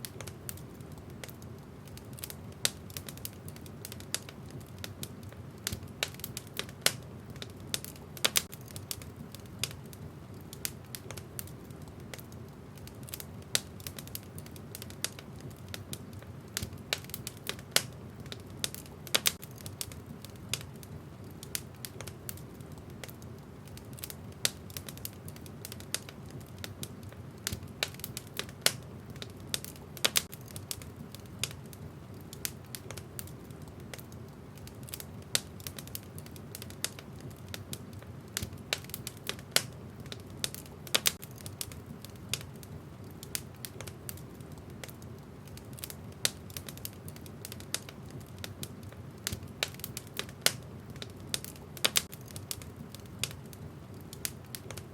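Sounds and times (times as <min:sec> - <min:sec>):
fire crackling and popping: 0:00.0 - 0:54.9
low rumble of flames: 0:00.0 - 0:54.9.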